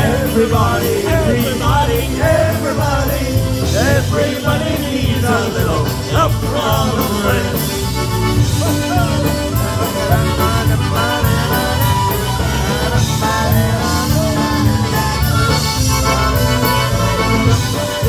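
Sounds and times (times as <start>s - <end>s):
people singing choruses: 0.0s - 18.0s
polka band playing: 0.0s - 18.0s.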